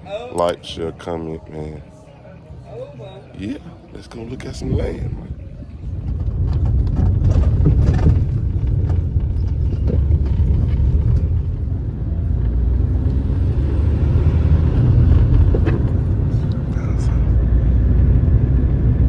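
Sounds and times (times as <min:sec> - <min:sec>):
car engine and road noise: 0:03.4 - 0:19.0.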